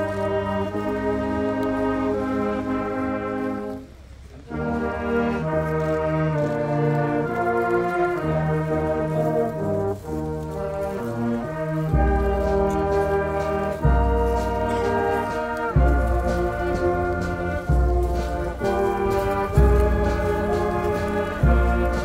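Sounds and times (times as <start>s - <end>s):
slow solemn brass music: 0.0s - 22.0s.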